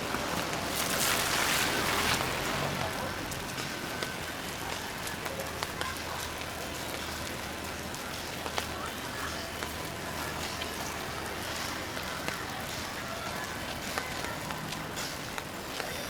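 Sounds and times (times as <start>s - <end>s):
rain falling on street: 0.0s - 16.0s
raindrops ticking nearby: 0.0s - 16.0s.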